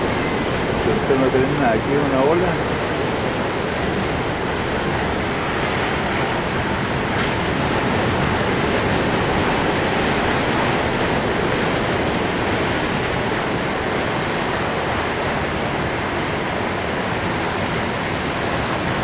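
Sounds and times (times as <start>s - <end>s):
storm surf breaking on rocks: 0.0s - 19.0s.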